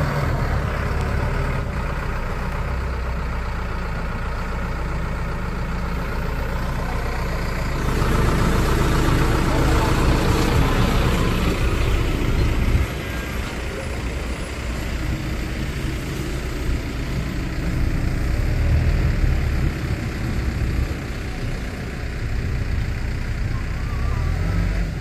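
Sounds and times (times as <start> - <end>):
truck diesel engine rumbling: 0.0 - 25.0.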